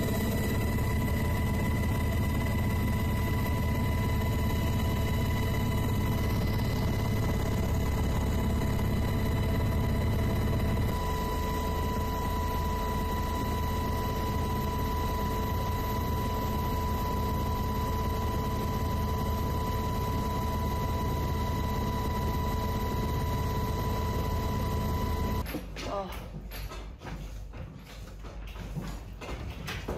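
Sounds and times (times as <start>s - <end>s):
high whine: 0.0s - 25.4s
helicopter engine and rotor drone: 0.0s - 25.5s.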